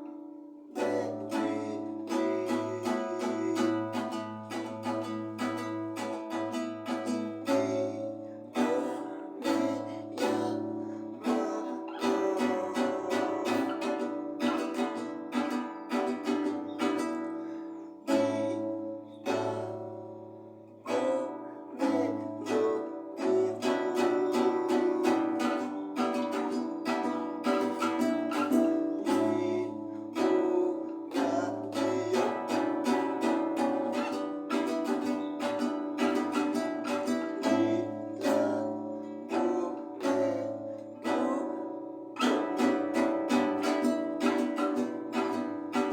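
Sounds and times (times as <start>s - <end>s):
plucked string instrument music: 0.0s - 45.9s.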